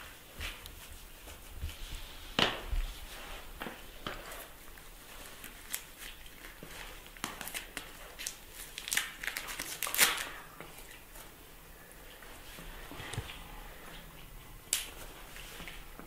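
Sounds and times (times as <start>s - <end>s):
crinkling rustles: 0.0s - 16.0s.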